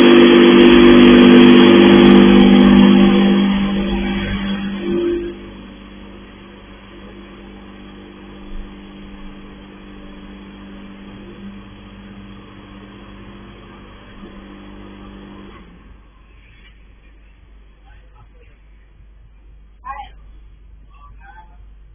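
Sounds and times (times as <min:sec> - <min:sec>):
high-pressure pump running: 0:00.0 - 0:18.8.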